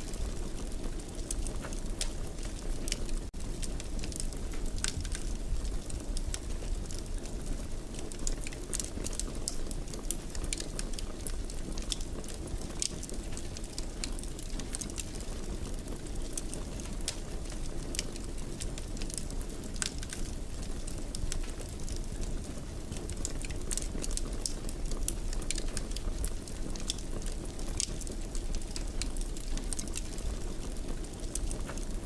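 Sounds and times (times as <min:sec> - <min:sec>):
fire popping and snapping: 0:00.0 - 0:32.0
wood fire crackling: 0:00.0 - 0:32.0.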